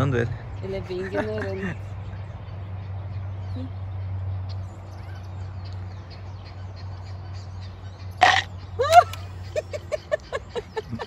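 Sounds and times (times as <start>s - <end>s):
bird chirps: 2.0s - 11.0s.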